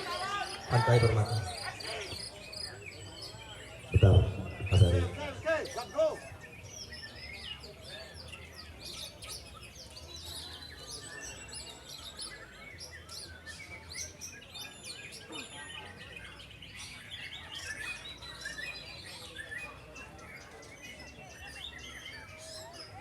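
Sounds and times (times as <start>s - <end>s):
songbirds singing in chorus: 0.0s - 23.0s.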